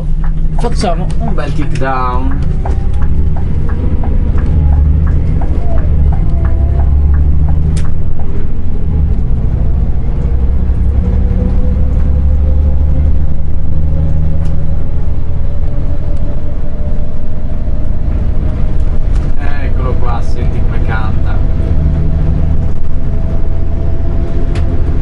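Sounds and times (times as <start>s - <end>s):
diesel engine pulling hard: 0.0s - 25.0s.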